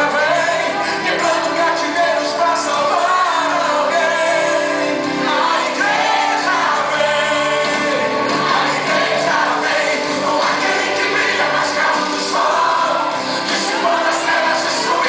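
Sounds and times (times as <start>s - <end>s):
gospel worship song: 0.0s - 15.0s.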